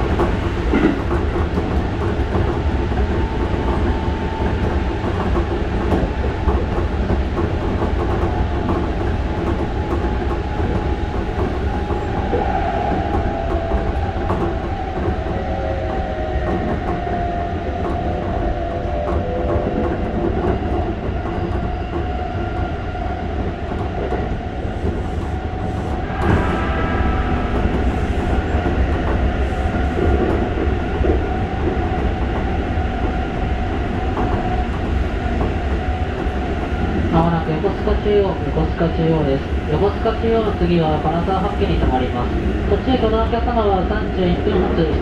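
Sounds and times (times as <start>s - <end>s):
wheels rumbling on rail: 0.0s - 45.0s.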